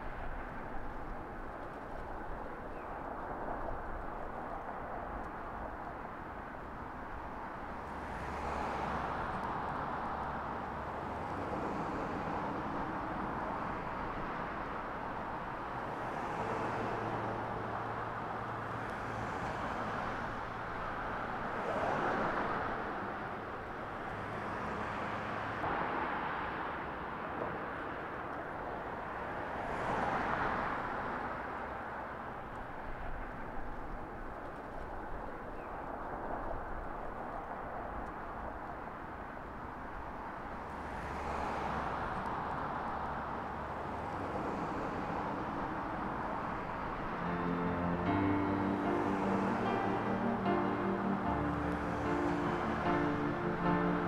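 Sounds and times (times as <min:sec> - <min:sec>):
cars passing by: 0:00.0 - 0:54.0.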